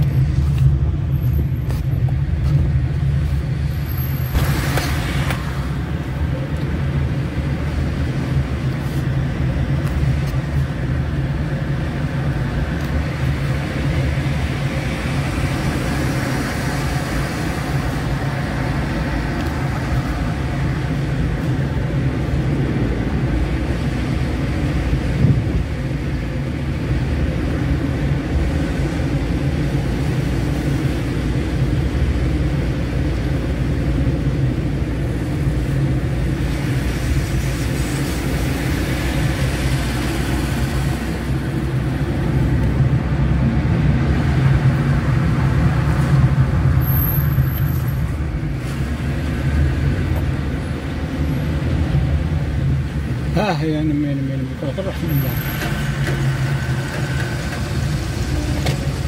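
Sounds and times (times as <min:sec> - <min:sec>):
engine and tyre drone: 0:00.0 - 0:59.0.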